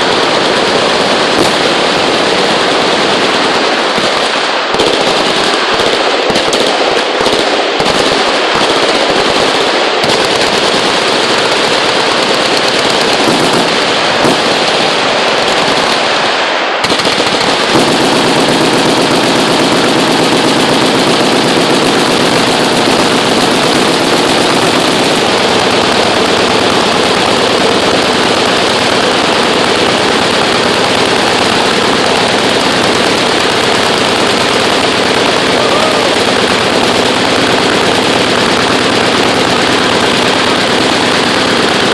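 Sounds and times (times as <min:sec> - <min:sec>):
automatic machine-gun fire: 0:00.0 - 0:41.9.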